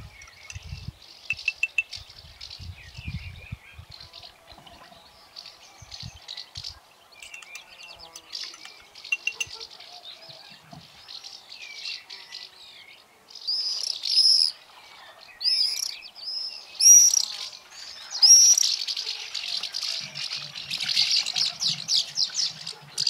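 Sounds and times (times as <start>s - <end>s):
birds chattering: 0.0s - 23.0s
songbirds singing: 0.0s - 23.0s.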